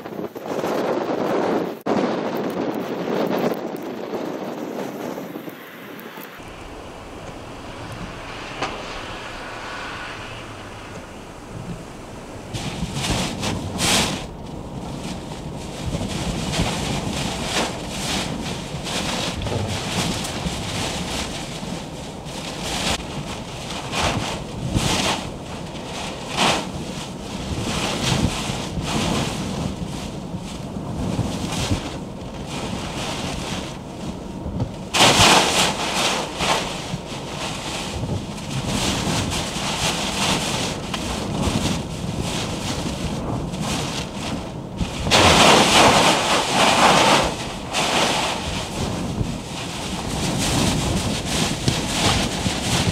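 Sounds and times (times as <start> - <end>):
storm wind gusting on microphone: 0.0 - 52.9.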